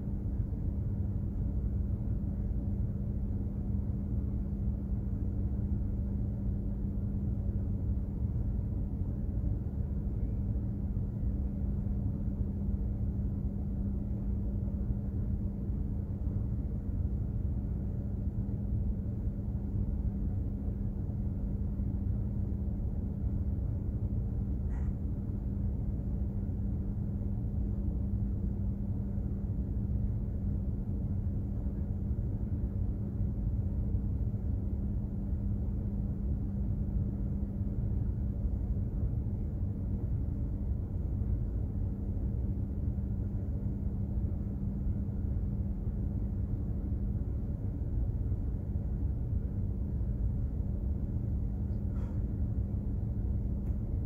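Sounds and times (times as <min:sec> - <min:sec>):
ship engine rumble and hum: 0:00.0 - 0:54.0.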